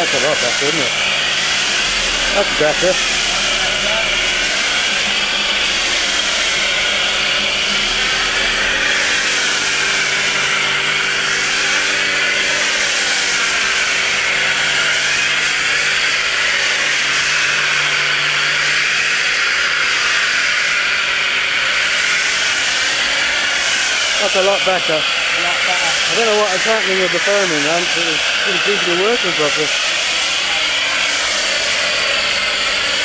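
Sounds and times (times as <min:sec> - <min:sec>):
foam spraying hiss: 0:00.0 - 0:21.0, 0:21.6 - 0:33.0
pressure washer machine hum: 0:00.0 - 0:33.0.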